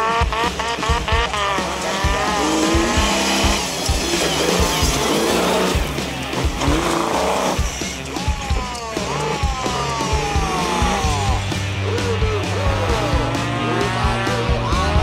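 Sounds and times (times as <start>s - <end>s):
buggy engine revving: 0.0s - 15.0s
music with steady beat: 0.0s - 15.0s.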